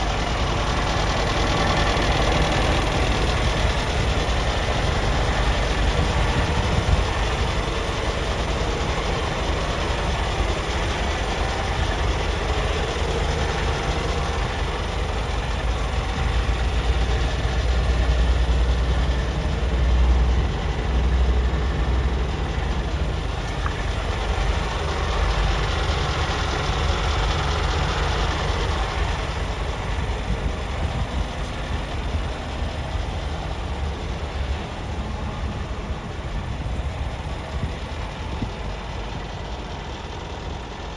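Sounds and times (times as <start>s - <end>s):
truck diesel engine rumbling: 0.0s - 40.9s.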